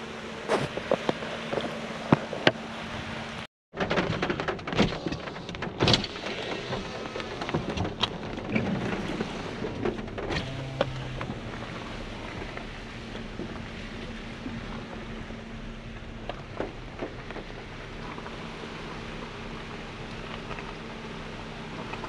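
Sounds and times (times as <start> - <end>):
raindrops tapping close by: 3.8 - 22.0.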